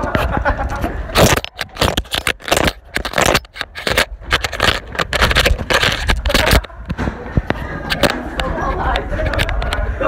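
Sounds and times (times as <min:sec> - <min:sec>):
rustling and scraping on microphone: 0:00.0 - 0:10.0.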